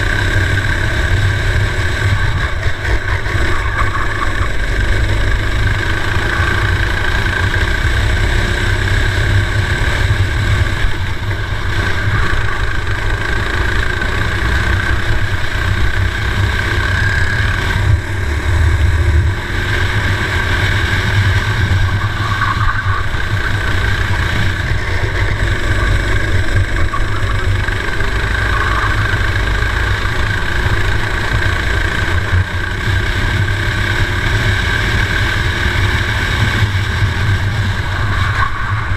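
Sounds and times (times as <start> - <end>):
racing kart engine: 0.0 - 38.9
wind rumble on microphone: 0.0 - 38.9.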